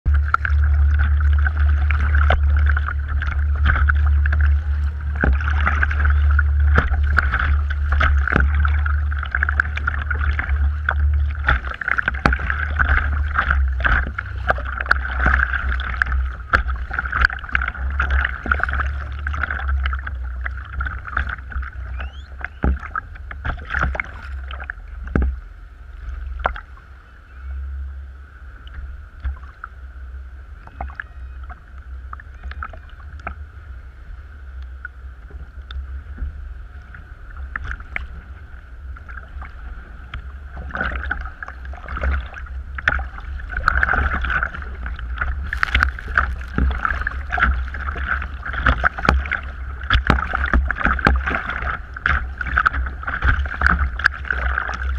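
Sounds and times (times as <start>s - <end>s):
steady low rumble: 0.0s - 54.9s
water slapping against hull: 0.1s - 27.0s, 28.6s - 54.9s
paddle splashes: 0.1s - 27.5s, 30.6s - 34.3s, 34.9s - 54.9s.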